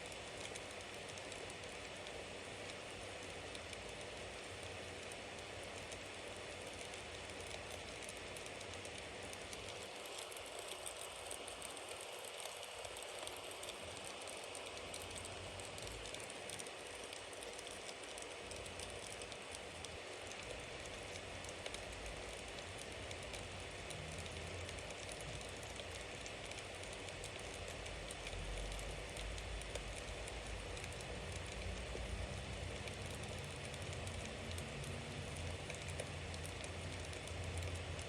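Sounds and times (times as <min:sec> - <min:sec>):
bonfire crackling and hissing: 0:00.0 - 0:38.0.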